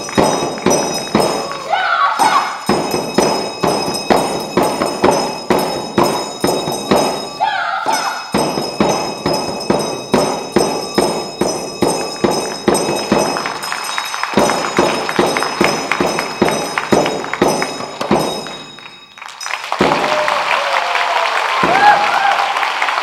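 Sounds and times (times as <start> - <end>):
frame drums beating fast rhythm: 0.0 - 7.4, 8.2 - 18.9, 19.7 - 20.5
high ringing tones: 0.0 - 20.6.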